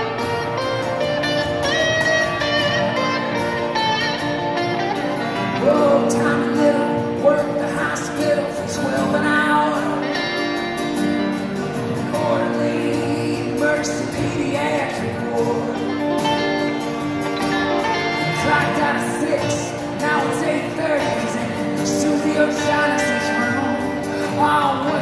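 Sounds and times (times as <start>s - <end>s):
acoustic guitars playing: 0.0s - 25.0s
person singing: 5.0s - 25.0s.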